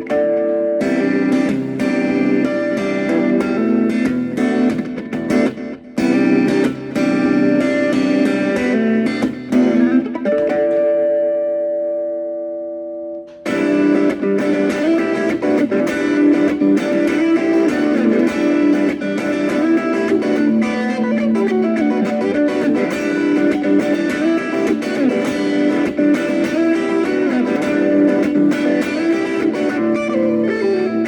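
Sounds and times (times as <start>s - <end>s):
plucked guitar notes: 0.0s - 31.0s.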